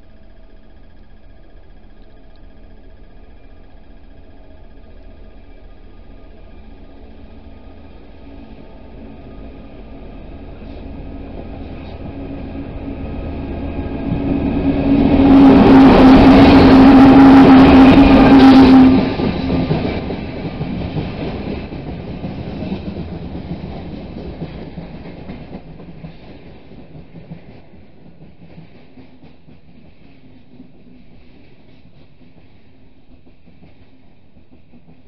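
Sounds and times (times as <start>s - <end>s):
diesel locomotive passing: 0.0s - 35.0s.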